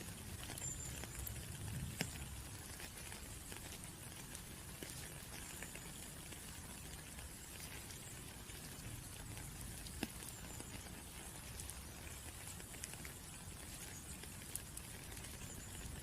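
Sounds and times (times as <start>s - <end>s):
raindrops pattering and ticking: 0.0s - 16.0s
steady rain: 0.0s - 16.0s.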